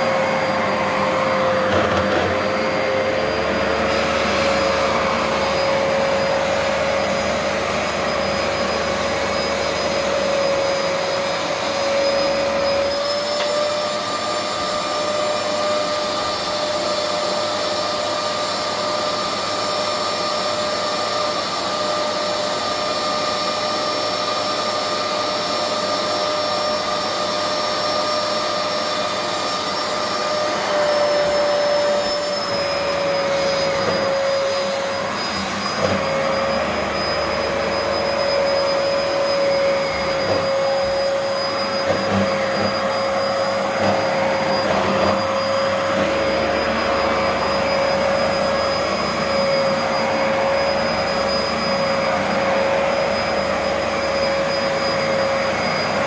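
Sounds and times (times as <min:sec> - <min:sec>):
carpet cleaner motor whine: 0:00.0 - 0:56.0.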